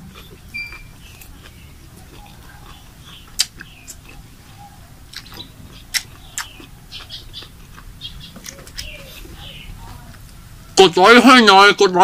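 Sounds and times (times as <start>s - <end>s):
mouth clicks: 0.0s - 10.4s
person chewing: 0.0s - 10.5s.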